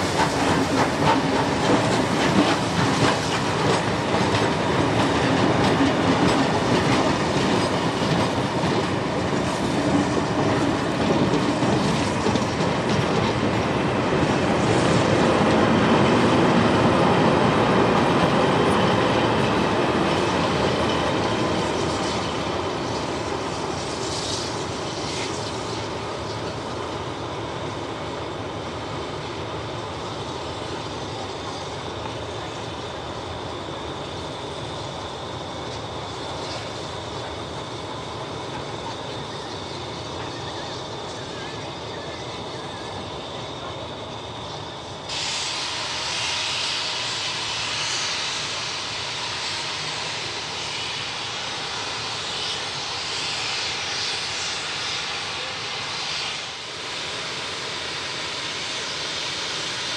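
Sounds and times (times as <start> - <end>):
train carriages rolling on rails: 0.0 - 59.9.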